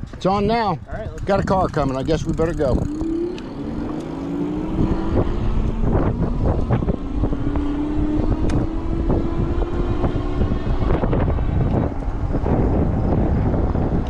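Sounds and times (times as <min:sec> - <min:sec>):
wind on microphone: 0:00.0 - 0:14.0
electric bike motor whining: 0:01.8 - 0:13.6.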